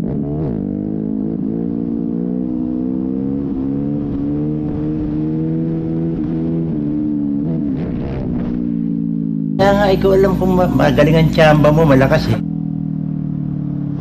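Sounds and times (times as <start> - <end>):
motorcycle engine shifting gears: 0.0 - 14.0.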